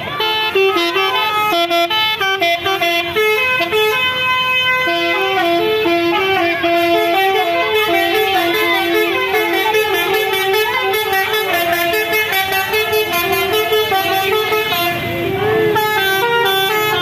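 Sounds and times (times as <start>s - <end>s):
musical bus air horn melody: 0.0s - 17.0s.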